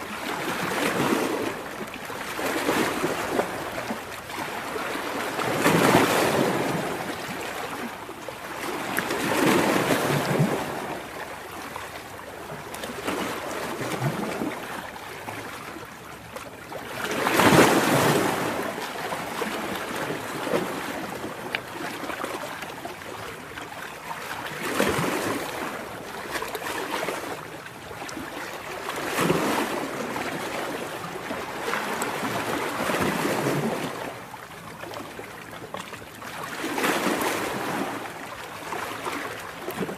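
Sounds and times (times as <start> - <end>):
waves washing on shore: 0.0 - 39.9.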